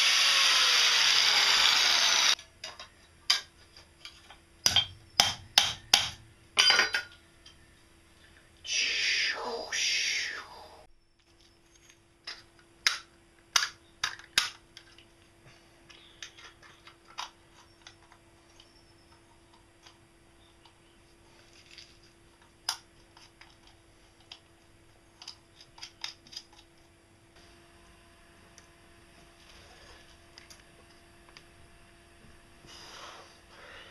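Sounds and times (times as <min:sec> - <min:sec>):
faint steady hum: 0:02.2 - 0:33.9.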